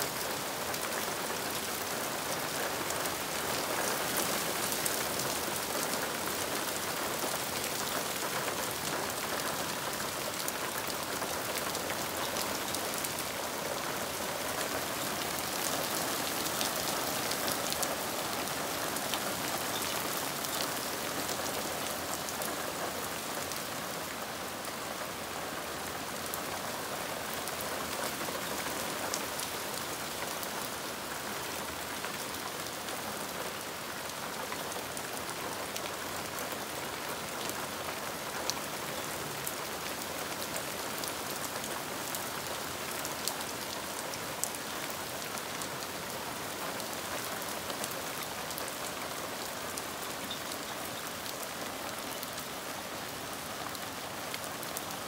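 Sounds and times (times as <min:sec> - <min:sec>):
hard rain on lawn and trees: 0:00.0 - 0:55.0.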